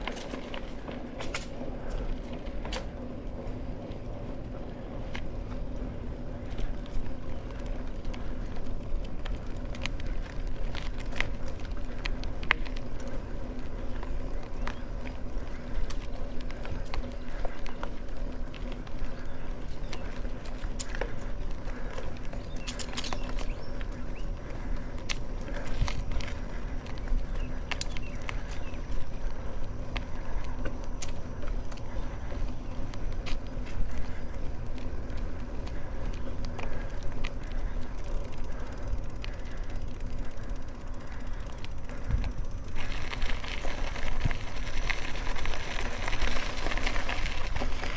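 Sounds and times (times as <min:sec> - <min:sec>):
bike clicks and rattles: 0:00.0 - 0:47.9
bike tyres rumbling on asphalt: 0:00.0 - 0:47.9.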